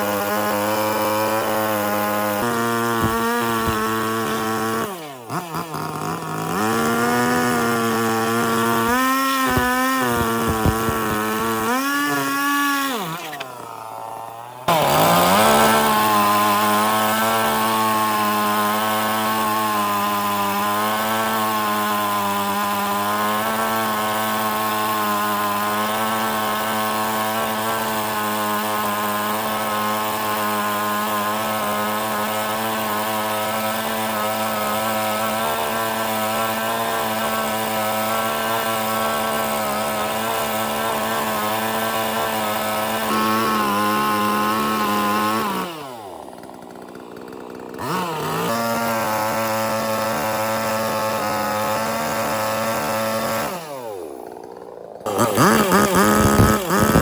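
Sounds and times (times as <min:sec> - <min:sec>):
power tool motor running: 0:00.0 - 0:57.0.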